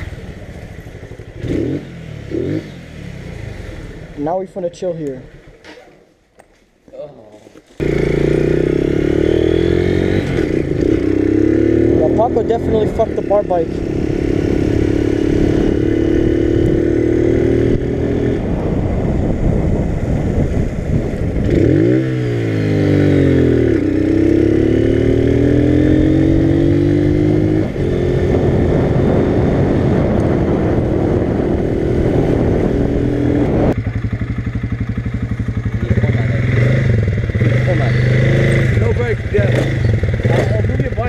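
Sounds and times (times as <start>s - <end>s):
small motorcycle engine revving: 1.4s - 4.0s, 7.8s - 18.5s, 21.3s - 41.0s.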